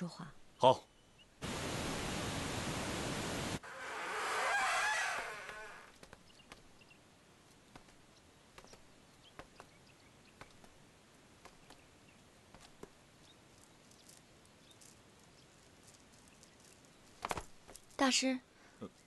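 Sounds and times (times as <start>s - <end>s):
faint hiss: 0.5s - 19.0s.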